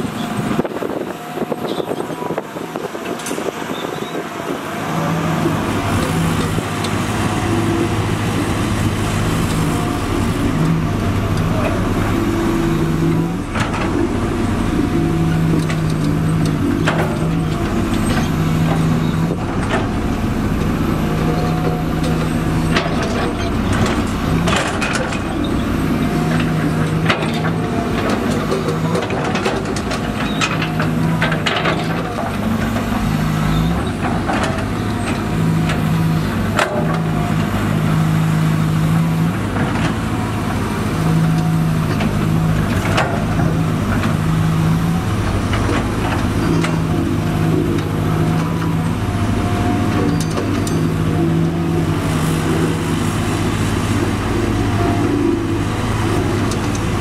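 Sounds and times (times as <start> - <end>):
diesel machinery engine hum: 0.0 - 57.0.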